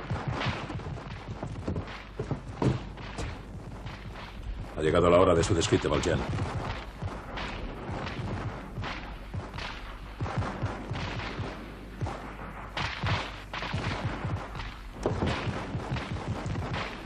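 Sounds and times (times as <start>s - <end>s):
gunfire shots: 0.0s - 17.0s.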